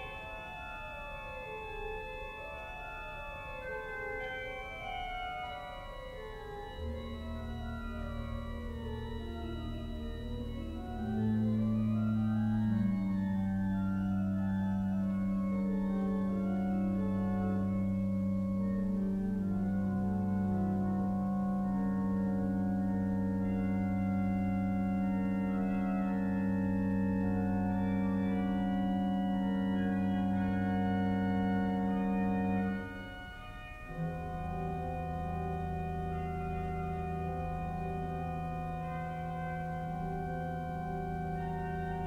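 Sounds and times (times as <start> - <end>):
pipe organ chords: 0.0 - 42.0.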